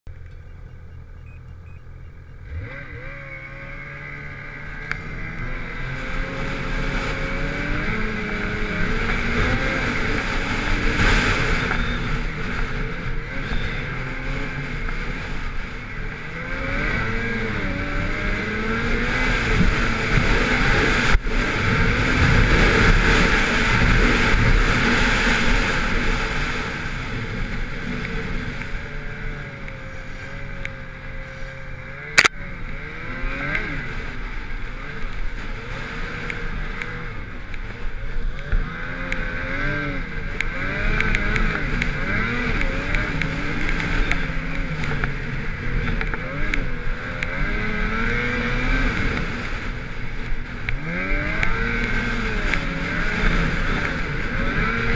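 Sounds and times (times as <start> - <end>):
snowmobile engine revving: 1.0 - 54.9.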